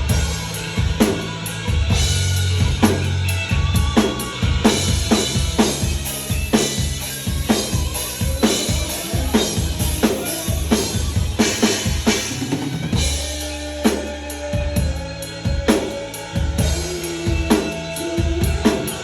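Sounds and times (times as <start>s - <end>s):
band backing track: 0.0s - 19.0s
bass: 0.0s - 19.0s
drum kit playing a beat: 0.0s - 19.0s.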